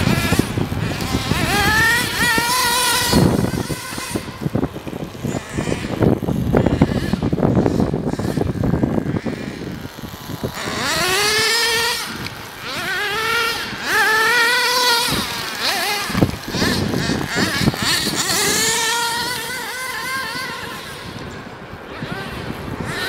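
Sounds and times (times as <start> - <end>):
rc truck motor revving: 0.0 - 23.0.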